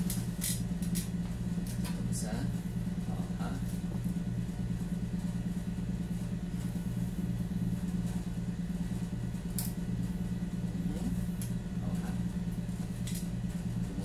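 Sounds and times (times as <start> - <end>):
low throbbing hum: 0.0 - 14.0.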